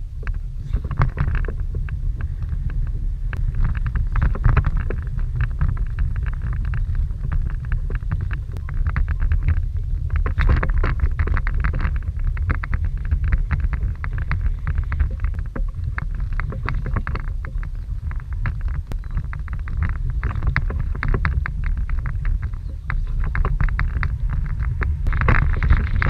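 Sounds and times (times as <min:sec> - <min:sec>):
water slapping kayak hull: 0:00.0 - 0:26.0
wind buffeting microphone: 0:00.0 - 0:26.0.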